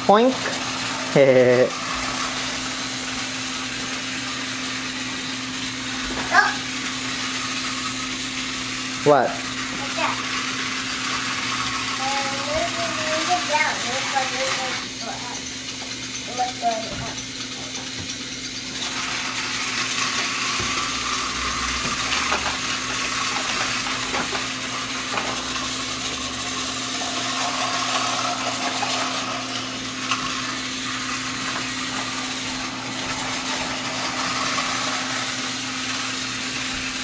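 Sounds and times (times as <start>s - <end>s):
toy train motor whirring: 0.0s - 37.0s.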